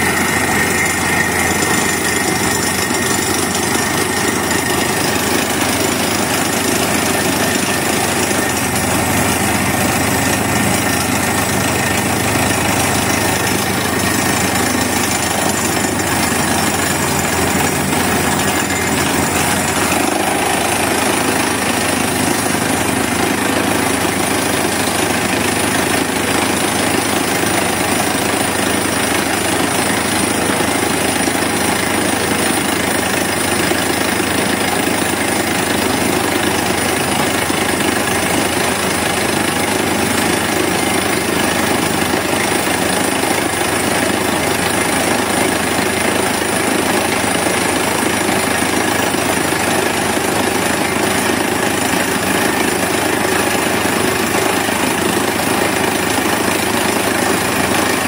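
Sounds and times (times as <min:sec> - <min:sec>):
air hammer clatter: 0:00.0 - 0:58.0
rig engine running: 0:00.0 - 0:58.0.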